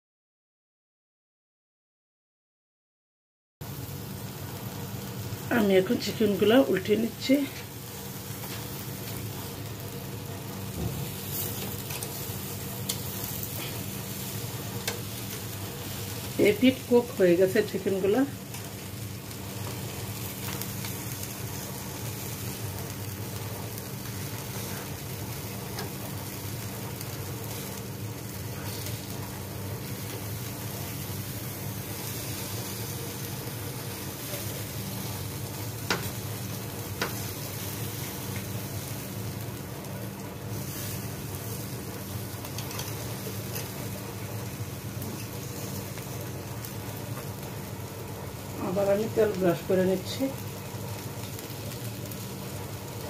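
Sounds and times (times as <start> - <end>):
chicken sizzling on grill: 3.6 - 53.0.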